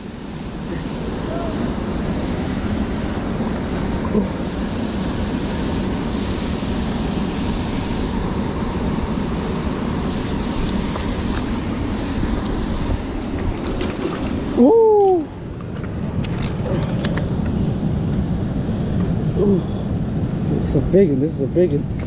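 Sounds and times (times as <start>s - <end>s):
river water rushing over rocks: 0.0s - 19.4s.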